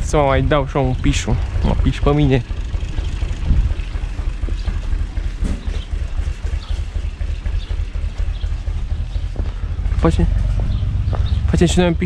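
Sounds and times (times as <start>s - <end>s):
diesel tractor idling: 0.0s - 12.0s.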